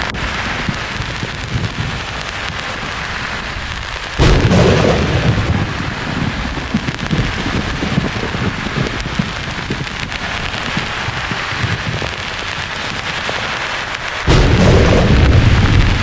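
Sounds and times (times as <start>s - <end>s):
low thunder rumbling: 0.0s - 13.5s, 14.2s - 16.0s
rain-like hiss: 0.0s - 16.0s.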